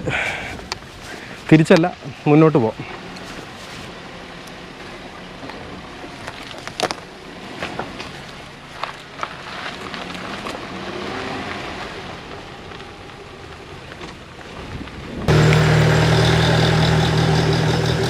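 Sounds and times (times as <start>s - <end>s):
car engine drone with road noise: 0.0s - 18.0s
outdoor noise: 0.0s - 18.0s.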